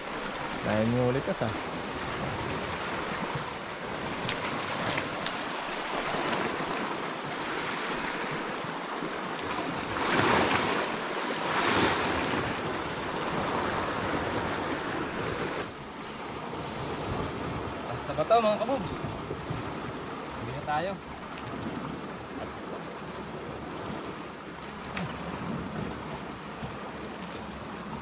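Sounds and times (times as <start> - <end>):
sea waves washing ashore: 0.0 - 28.0
wind buffeting microphone: 1.4 - 27.0.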